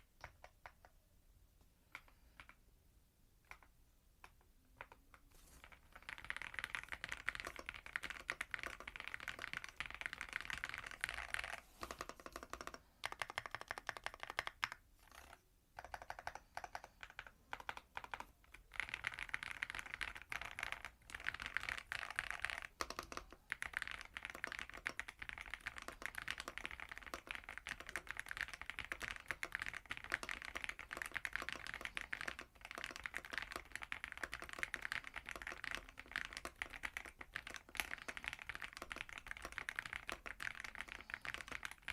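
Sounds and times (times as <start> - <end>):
fast mechanical keyboard typing: 5.6 - 41.9.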